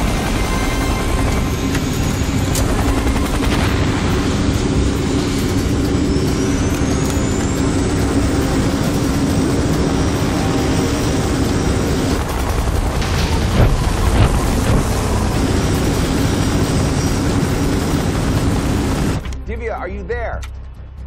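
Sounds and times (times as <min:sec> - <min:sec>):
helicopter rotor and engine: 0:00.0 - 0:19.4.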